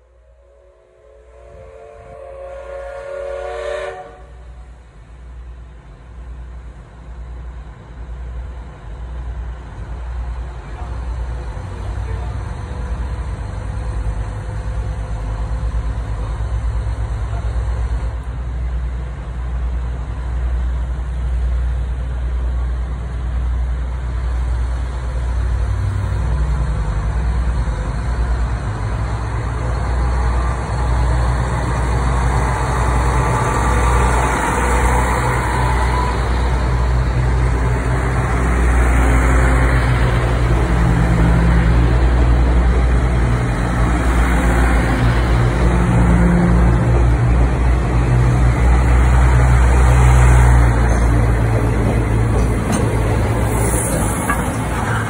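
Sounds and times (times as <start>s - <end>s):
diesel railcar engine rumble: 0.0s - 55.0s.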